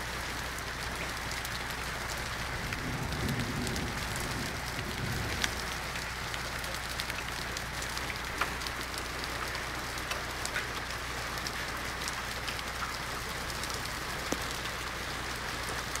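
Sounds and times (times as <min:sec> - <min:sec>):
heavy rain pouring: 0:00.0 - 0:16.0
raindrops ticking on hard surfaces: 0:00.0 - 0:16.0.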